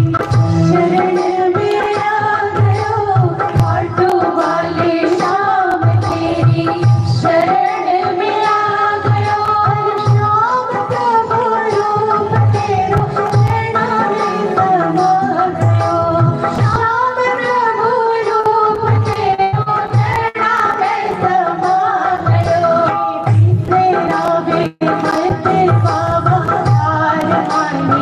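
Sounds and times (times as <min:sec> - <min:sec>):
hand drum beating: 0:00.0 - 0:11.2, 0:11.8 - 0:17.3, 0:22.2 - 0:28.0
amplified band: 0:00.0 - 0:28.0
woman singing into a microphone: 0:00.0 - 0:28.0.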